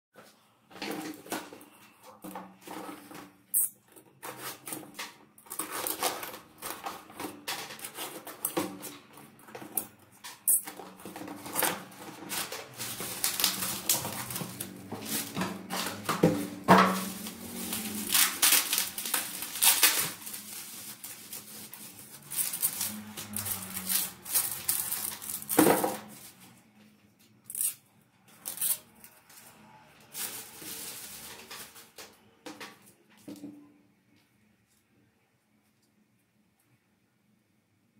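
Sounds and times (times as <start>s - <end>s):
packaging crinkling and rustling: 0.7s - 26.7s, 27.5s - 32.8s.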